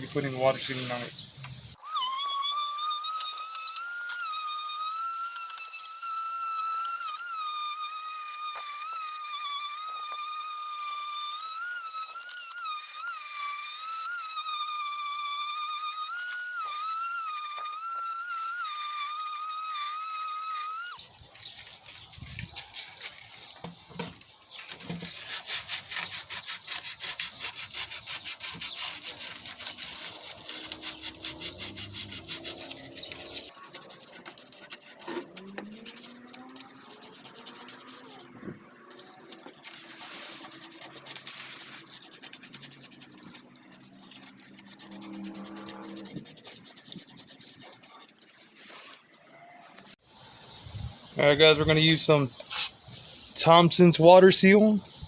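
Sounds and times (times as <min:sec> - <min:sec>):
sandpaper rubbing on wood: 0:00.1 - 0:01.1, 0:01.8 - 0:23.6, 0:24.6 - 0:49.1, 0:52.5 - 0:53.4.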